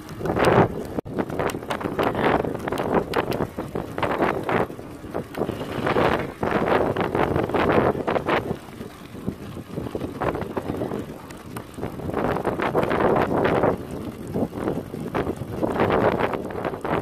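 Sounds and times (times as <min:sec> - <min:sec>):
bicycle tyres crunching on gravel: 0:00.0 - 0:17.0
wind buffeting microphone: 0:00.0 - 0:17.0.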